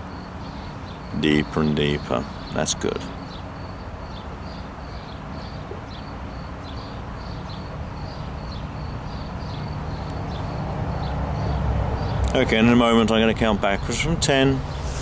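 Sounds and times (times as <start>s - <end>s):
small bird chirping: 0.0s - 12.3s.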